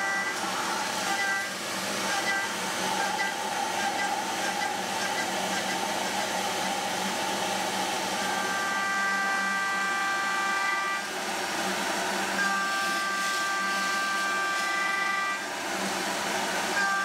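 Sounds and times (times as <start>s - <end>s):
high whining tone: 0.0s - 15.5s
milling machine cutting steel: 0.0s - 17.0s.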